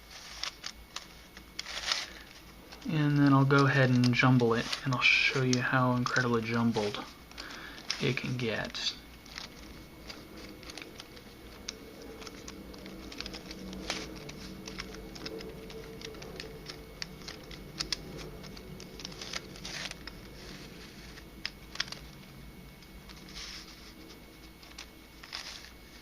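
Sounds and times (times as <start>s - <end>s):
plastic puzzle clicking and scraping: 0.0s - 26.0s.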